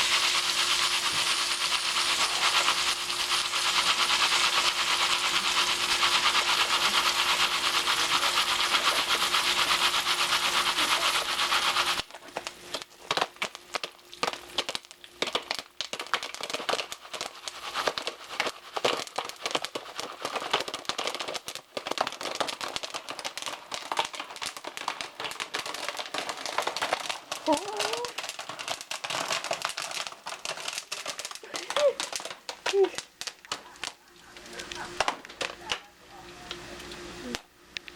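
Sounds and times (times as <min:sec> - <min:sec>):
popcorn kernels popping: 0:00.0 - 0:37.9
steady hiss with low hum: 0:00.0 - 0:37.9.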